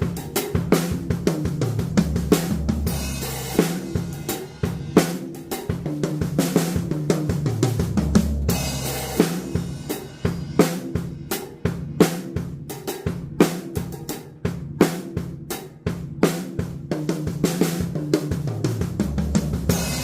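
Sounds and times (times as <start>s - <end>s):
drum strokes: 0.0s - 13.9s, 16.2s - 20.0s.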